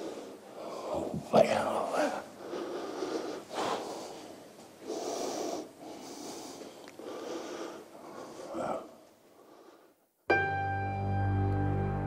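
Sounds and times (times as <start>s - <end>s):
man breathing: 0.0s - 10.2s.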